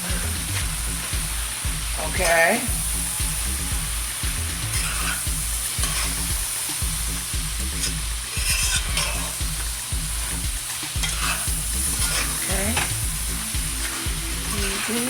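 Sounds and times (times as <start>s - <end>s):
food sizzling in a pot: 0.0s - 15.0s
spoon stirring: 0.0s - 15.0s.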